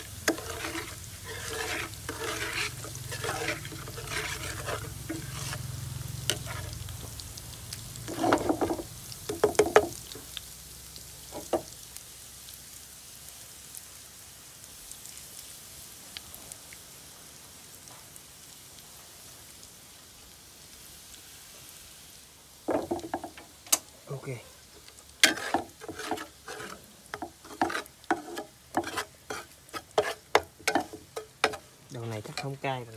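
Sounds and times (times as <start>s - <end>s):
sauce sizzling in oil: 0.0s - 32.9s.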